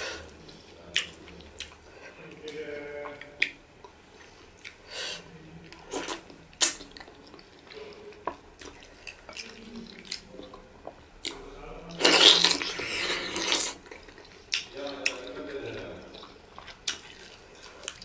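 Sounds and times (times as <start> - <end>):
chewing: 0.0 - 4.9, 5.6 - 18.0
wet smacks and squishes of eating: 0.2 - 4.9, 5.6 - 18.0.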